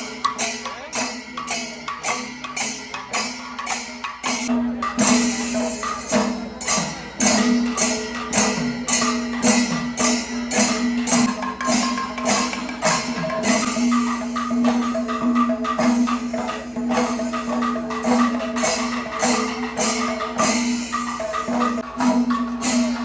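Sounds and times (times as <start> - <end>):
drum strokes: 0.0 - 23.0
metallic cymbal clashes: 0.0 - 23.0.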